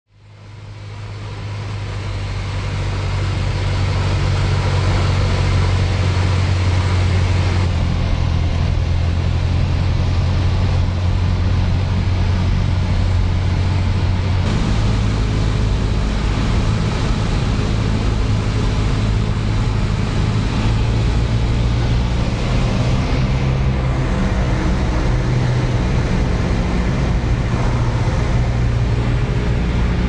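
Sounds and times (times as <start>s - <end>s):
propeller aeroplane engine droning: 0.1s - 30.0s.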